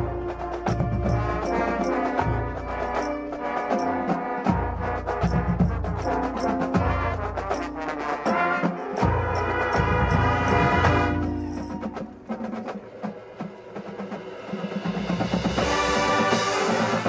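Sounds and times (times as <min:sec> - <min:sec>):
brass chords: 0:00.0 - 0:12.6, 0:15.6 - 0:17.0
marching band playing: 0:00.0 - 0:17.0
sharp percussion strokes: 0:00.0 - 0:17.0.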